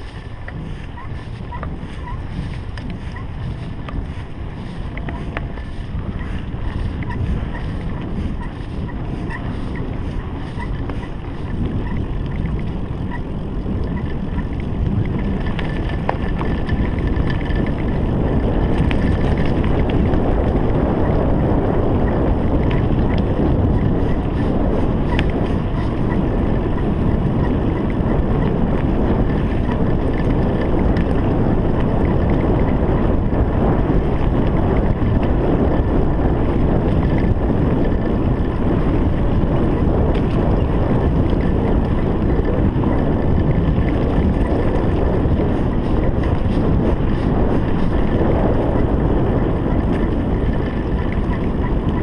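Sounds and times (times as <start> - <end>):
bike rattling: 0.0 - 52.0
bike tyres rolling on dirt: 0.0 - 52.0
wind buffeting microphone: 0.0 - 52.0.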